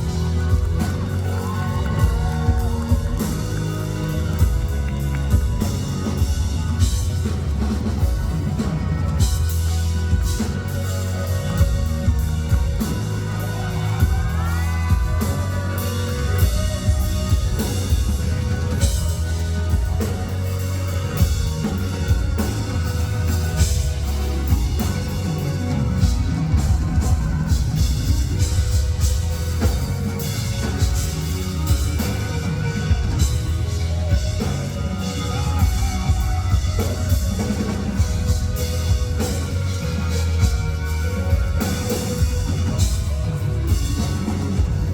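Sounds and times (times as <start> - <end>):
drum kit beat: 0.0 - 44.9
heavy bass line: 0.0 - 44.9
live pop-rock band: 0.0 - 44.9.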